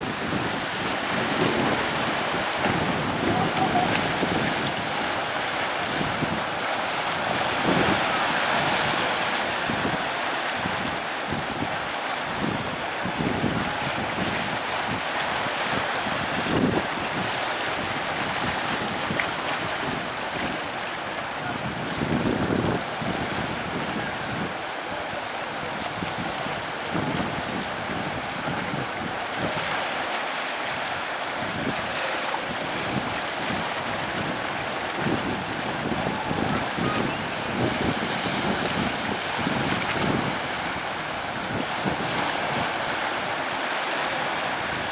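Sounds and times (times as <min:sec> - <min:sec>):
wind buffeting microphone: 0:00.0 - 0:25.0, 0:25.6 - 0:29.9, 0:30.7 - 0:44.9
waves washing onto beach: 0:00.0 - 0:44.9.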